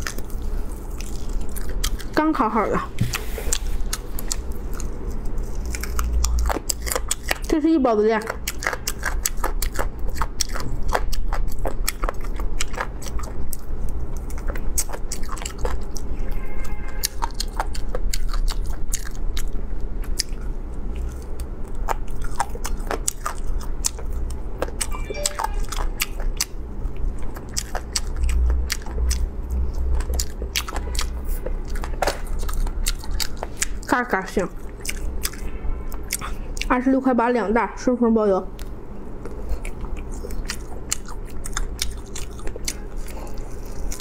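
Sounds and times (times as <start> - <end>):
person chewing chicken: 0.0 - 2.2, 2.9 - 7.5, 8.3 - 33.9, 34.6 - 36.7, 38.6 - 44.0
steady low hum: 0.0 - 16.4, 17.1 - 44.0.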